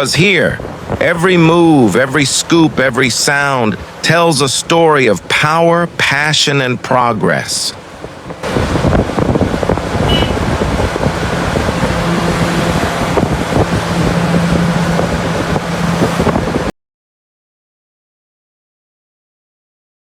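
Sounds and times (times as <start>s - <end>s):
heavy diesel machinery rumbling: 0.0s - 16.7s.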